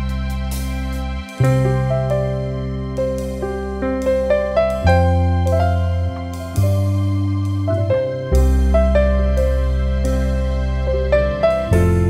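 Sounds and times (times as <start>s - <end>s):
keyboard music: 0.0s - 12.0s.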